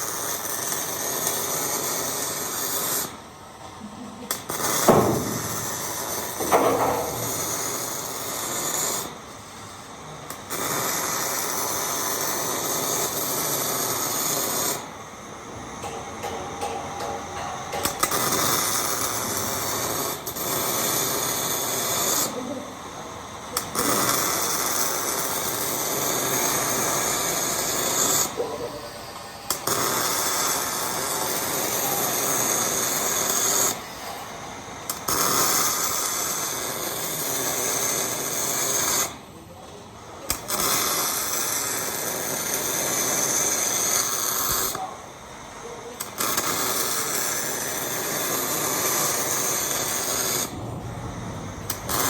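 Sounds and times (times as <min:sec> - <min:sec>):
welding arc crackling: 0:00.0 - 0:52.0.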